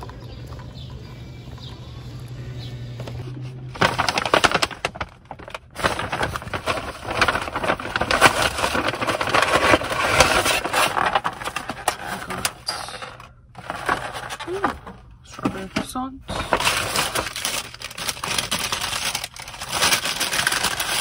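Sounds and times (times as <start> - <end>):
paper bag rustling: 3.2 - 21.0
plastic container crackling: 3.7 - 21.0.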